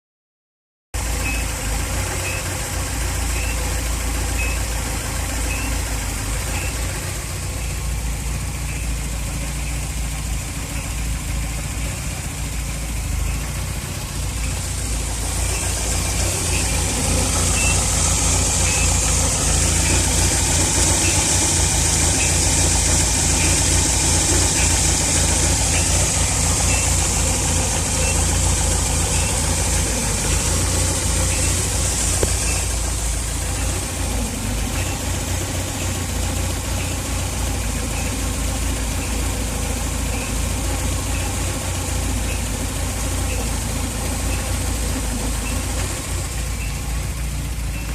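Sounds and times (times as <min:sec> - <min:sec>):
car engine running: 0:01.0 - 0:47.9.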